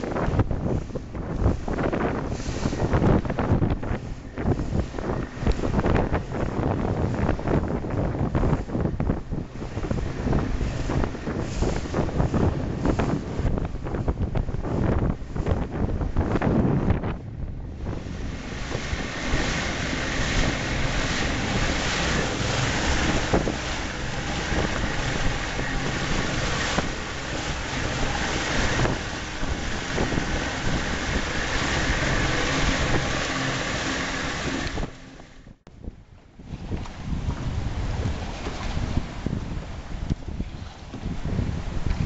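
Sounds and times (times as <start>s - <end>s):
outboard motor running: 0.0s - 35.6s, 36.2s - 42.0s
water rushing in wake: 0.0s - 35.6s, 36.4s - 42.0s
wind buffeting microphone: 0.0s - 42.0s.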